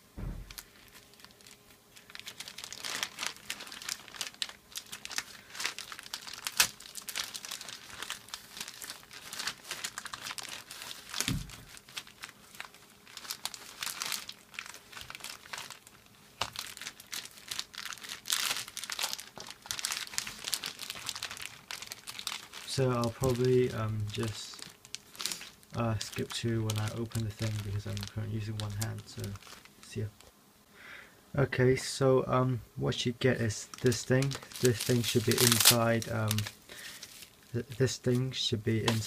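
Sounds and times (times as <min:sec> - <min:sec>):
plastic bag crinkling: 0:00.2 - 0:30.2, 0:33.4 - 0:39.0.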